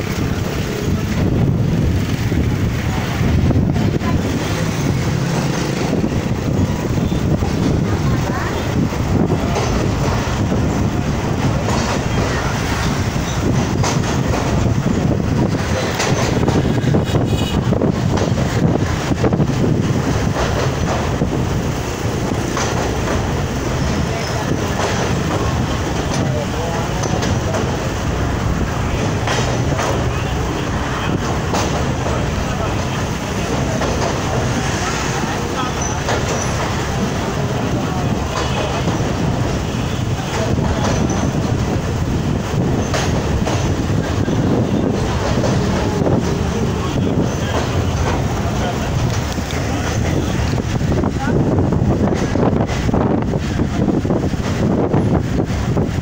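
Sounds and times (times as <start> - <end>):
train wheels rumbling: 0.0 - 56.0
wind buffeting microphone: 0.0 - 56.0.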